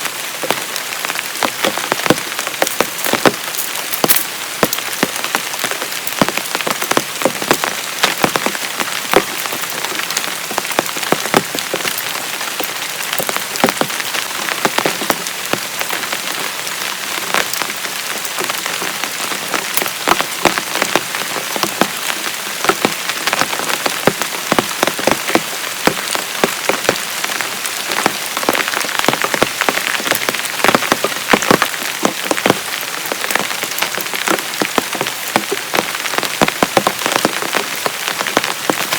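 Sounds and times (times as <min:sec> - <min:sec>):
heavy rain falling: 0:00.0 - 0:38.9
raindrops tapping a surface: 0:00.0 - 0:38.9.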